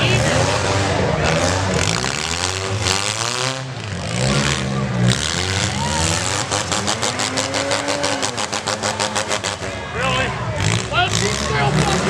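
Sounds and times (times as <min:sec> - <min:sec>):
car engines revving: 0:00.0 - 0:12.0
crowd voices: 0:00.0 - 0:12.0.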